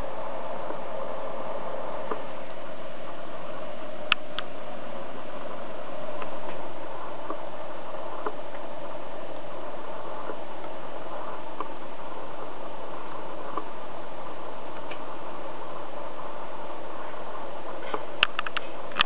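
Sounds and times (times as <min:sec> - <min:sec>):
steady whirring: 0:00.0 - 0:19.0.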